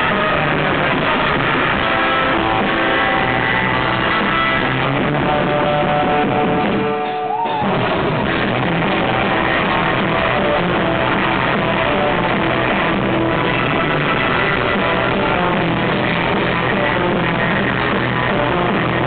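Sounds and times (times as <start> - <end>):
bass and drums: 0.0 - 19.0
electric guitar: 0.0 - 19.0.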